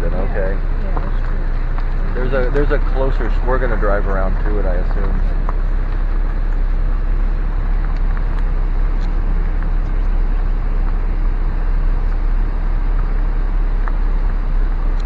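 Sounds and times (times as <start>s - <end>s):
car driving road and wind noise: 0.0s - 15.0s.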